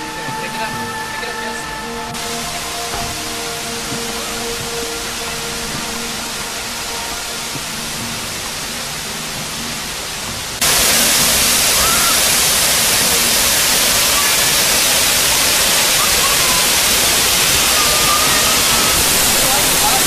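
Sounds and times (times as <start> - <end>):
faint steady tones: 0.0 - 20.0
waterfall roaring: 0.0 - 20.0.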